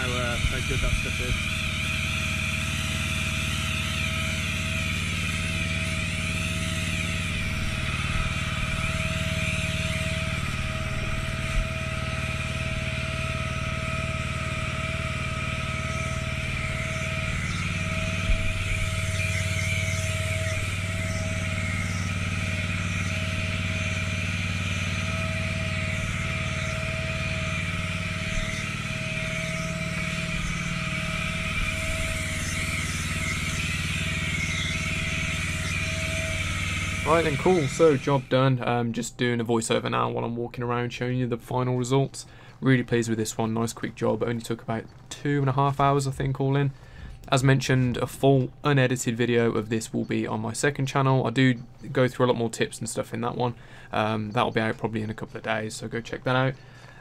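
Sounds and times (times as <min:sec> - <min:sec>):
pressure washer engine drone: 0:00.0 - 0:57.0.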